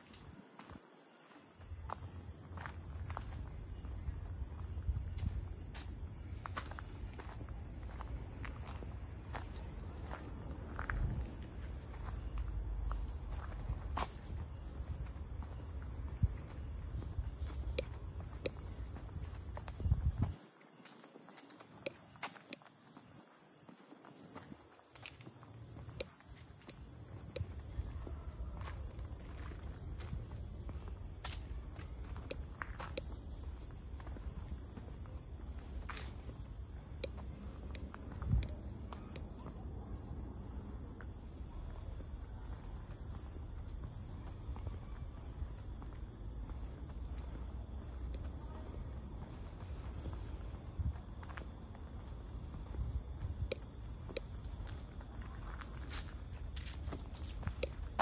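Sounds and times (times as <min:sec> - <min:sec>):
footsteps: 0:00.0 - 0:39.5, 0:41.3 - 0:58.0
insect chorus drone: 0:00.0 - 0:58.0.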